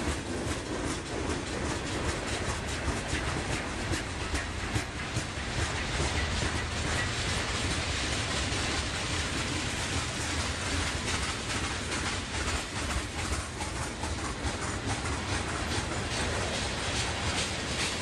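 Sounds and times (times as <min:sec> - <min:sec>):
quick clicks and clacks: 0:00.0 - 0:18.0
train wheels rumbling on rails: 0:00.0 - 0:18.0.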